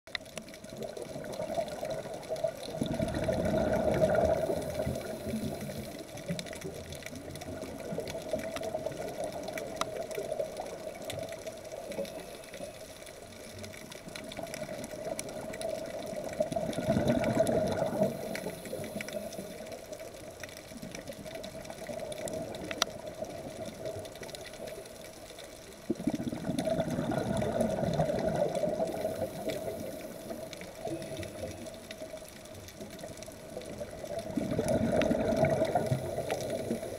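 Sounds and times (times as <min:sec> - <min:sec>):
faint clicks: 0:00.1 - 0:36.9
underwater regulator bubbles gurgling: 0:00.1 - 0:36.9.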